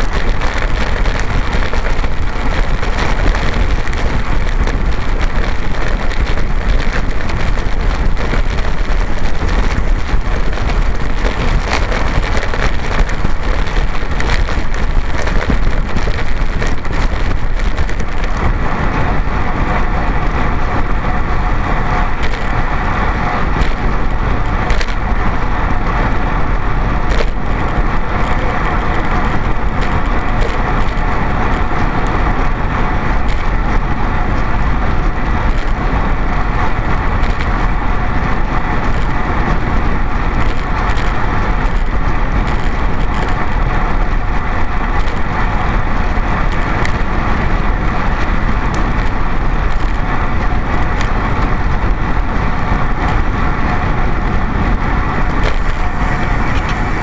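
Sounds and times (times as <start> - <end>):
tyre noise on road: 0.0 - 57.0
wind rushing over microphone: 0.0 - 57.0.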